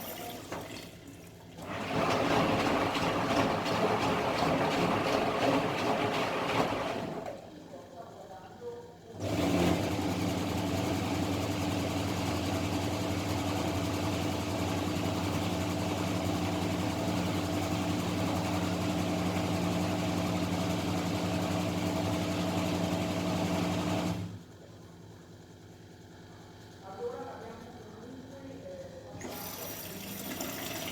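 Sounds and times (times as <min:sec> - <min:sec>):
washing machine running: 0:00.0 - 0:30.9.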